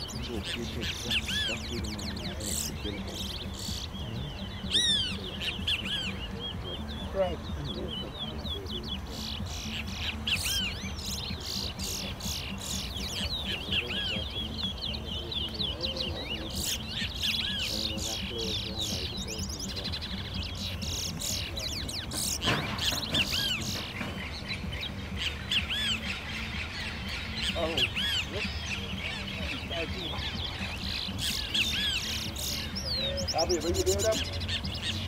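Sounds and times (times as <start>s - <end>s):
finches chirping: 0.0s - 35.0s.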